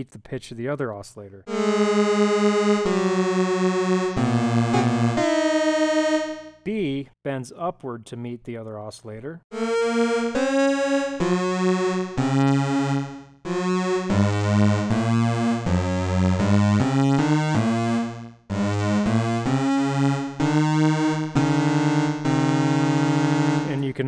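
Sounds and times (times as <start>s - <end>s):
synthesizer sustained notes: 1.5s - 6.5s, 9.5s - 24.0s.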